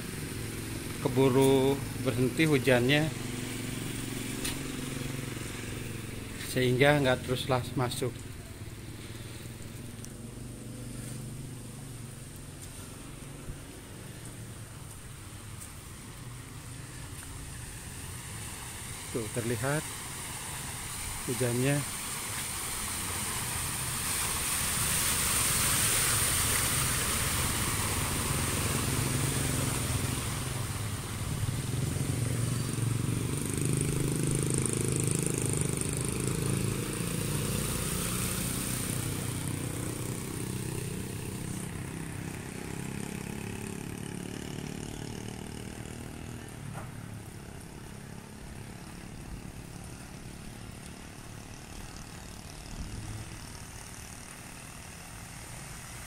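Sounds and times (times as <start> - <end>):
tyres splashing through water: 0.0 - 56.0
vehicle engines running: 0.0 - 56.0.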